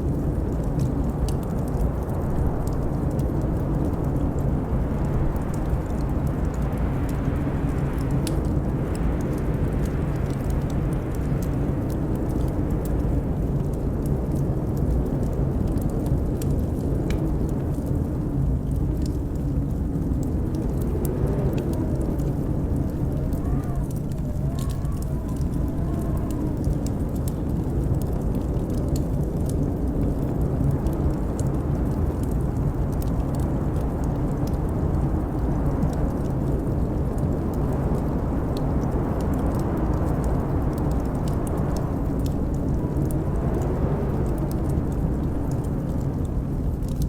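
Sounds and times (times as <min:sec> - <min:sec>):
blizzard wind rumbling: 0:00.0 - 0:47.0
wood fire crackling and popping: 0:00.0 - 0:47.0.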